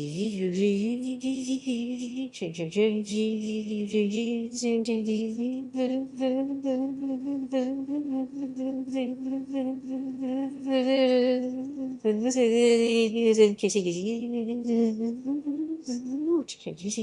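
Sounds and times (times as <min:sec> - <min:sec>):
person singing long wavering notes: 0:00.0 - 0:16.5.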